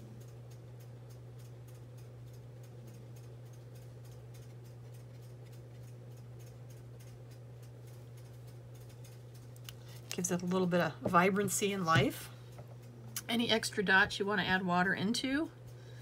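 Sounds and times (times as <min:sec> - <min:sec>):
faint ticking: 0:00.0 - 0:13.4, 0:15.5 - 0:16.0
low electrical hum: 0:00.0 - 0:16.0.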